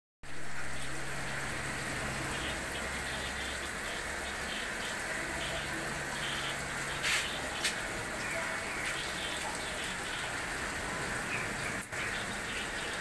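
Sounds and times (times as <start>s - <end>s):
water splashing and trickling: 0.2s - 13.0s
pump hum: 0.3s - 13.0s.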